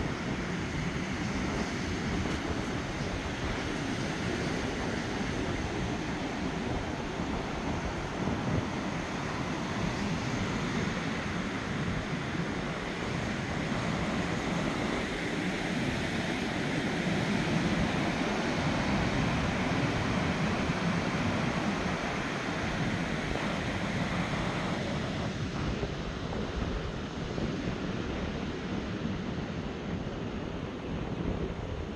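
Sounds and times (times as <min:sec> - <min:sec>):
surf washing onto beach: 0:00.0 - 0:31.7
wind buffeting microphone: 0:00.0 - 0:31.9.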